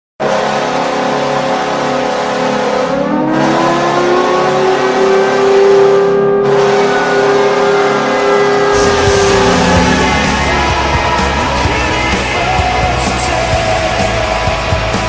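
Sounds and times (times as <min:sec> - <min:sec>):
goal horn sirens: 0:00.2 - 0:13.8.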